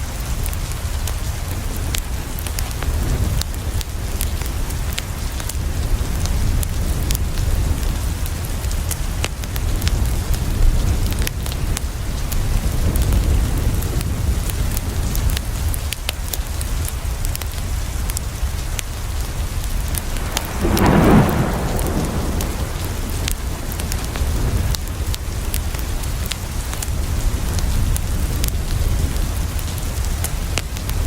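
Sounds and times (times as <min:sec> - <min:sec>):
rain falling on a window: 0:00.0 - 0:31.0
rush of rain: 0:00.0 - 0:31.0.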